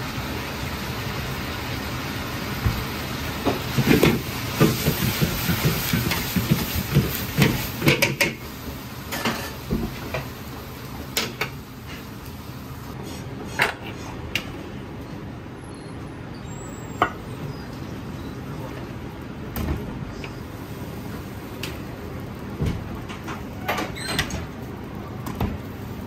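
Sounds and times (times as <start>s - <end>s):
gas burner roaring: 0.0s - 15.6s, 16.4s - 26.0s.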